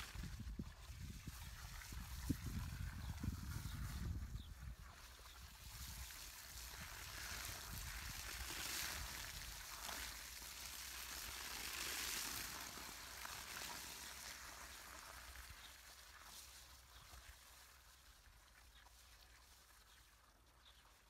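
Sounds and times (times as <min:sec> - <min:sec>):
hose water splashing on soil: 0:00.0 - 0:21.0.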